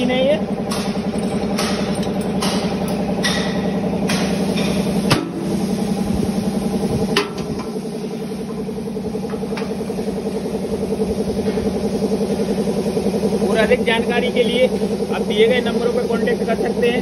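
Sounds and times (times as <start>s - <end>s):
pulsing machine drone: 0.0s - 17.0s.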